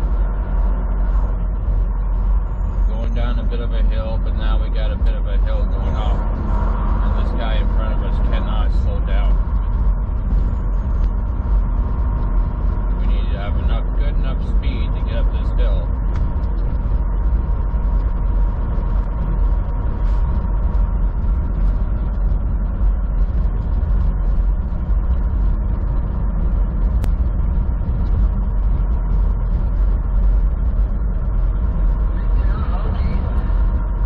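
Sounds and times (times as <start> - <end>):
diesel truck engine drone: 0.0 - 34.0
faint steady whine: 0.0 - 34.0.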